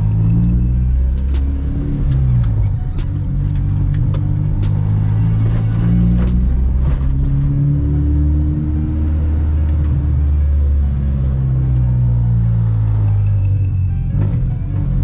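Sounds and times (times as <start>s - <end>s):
car engine droning inside cabin: 0.0s - 15.0s.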